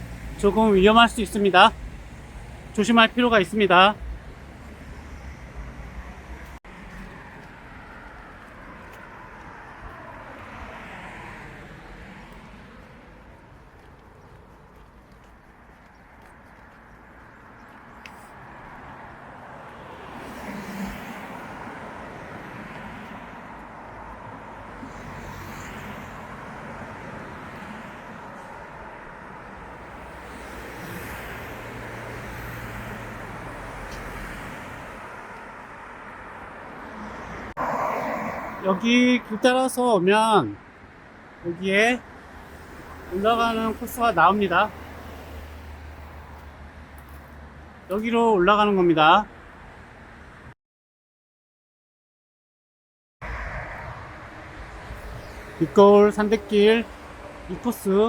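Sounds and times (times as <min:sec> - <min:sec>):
vehicle passing on road: 0:00.0 - 0:50.5, 0:53.2 - 0:58.0.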